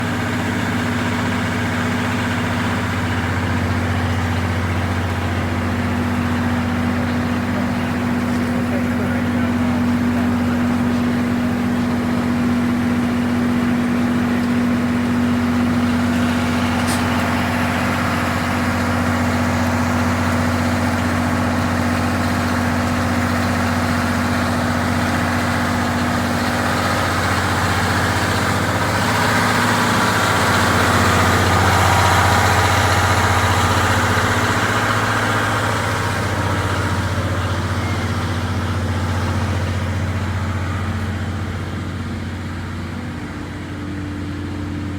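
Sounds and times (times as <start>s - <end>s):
diesel generator engine humming: 0.0s - 44.9s.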